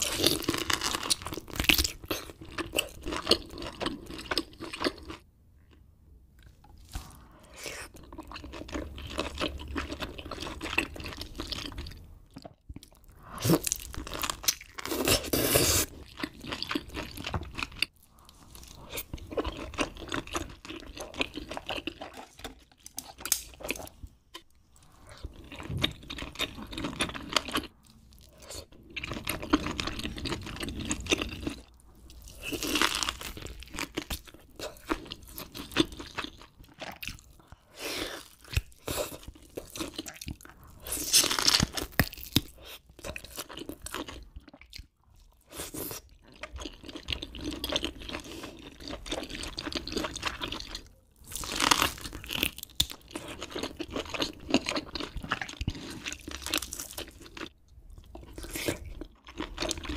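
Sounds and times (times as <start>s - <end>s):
biting and chewing food: 6.4s - 59.9s.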